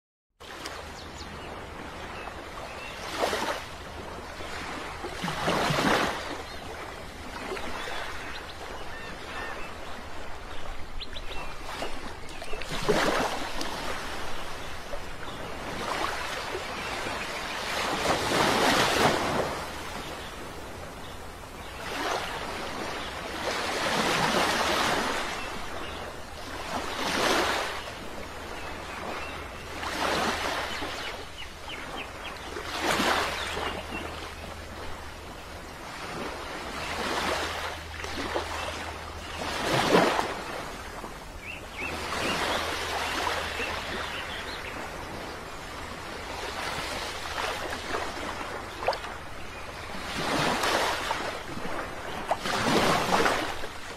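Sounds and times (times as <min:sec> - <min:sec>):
waves breaking on beach: 0:00.4 - 0:53.9.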